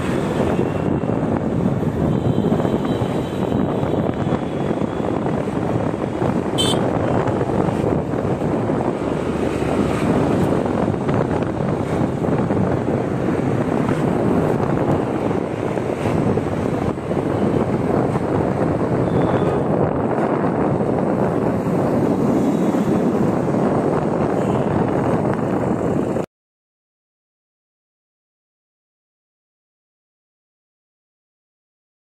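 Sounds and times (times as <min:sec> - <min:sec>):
scooter road noise: 0:00.0 - 0:26.3
wind rushing over microphone: 0:00.0 - 0:26.3.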